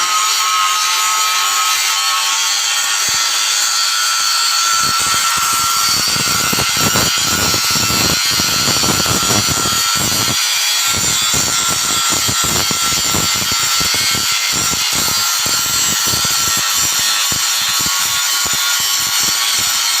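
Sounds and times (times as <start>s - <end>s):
machine grinding metal: 0.0s - 20.0s.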